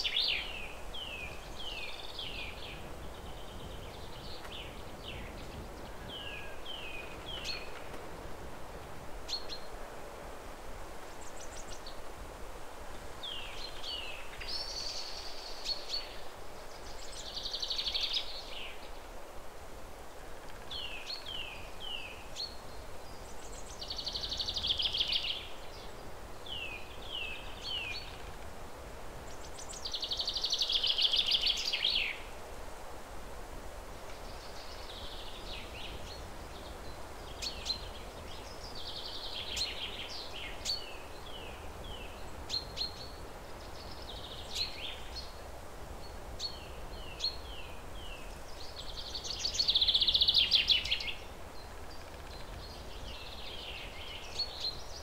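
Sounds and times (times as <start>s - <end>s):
songbird singing: 0.0s - 9.9s, 10.8s - 12.2s, 12.9s - 19.1s, 20.2s - 32.5s, 33.7s - 55.0s
steady background hiss: 0.0s - 55.0s.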